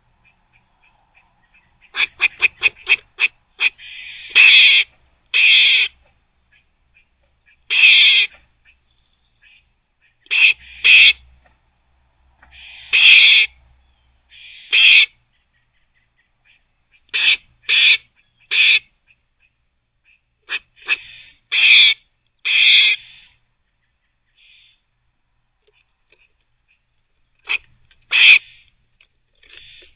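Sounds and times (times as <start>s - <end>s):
squirrel barking: 0.2s - 11.2s, 12.5s - 13.6s, 14.3s - 24.8s, 26.6s - 28.7s.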